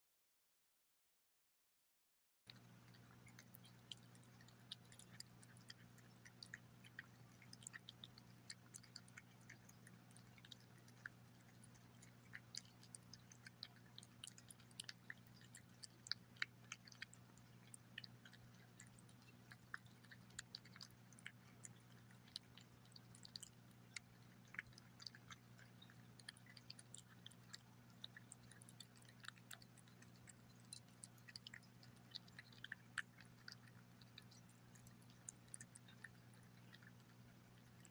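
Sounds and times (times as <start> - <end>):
cat eating wet food: 2.5 - 37.9.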